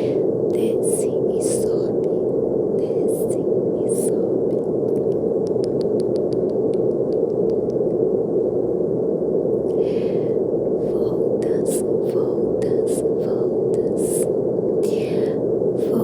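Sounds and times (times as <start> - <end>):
brown noise hiss: 0.0 - 16.0.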